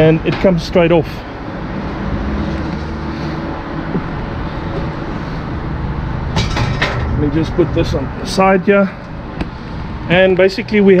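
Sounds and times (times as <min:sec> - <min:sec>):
refrigeration plant humming: 0:00.0 - 0:11.0.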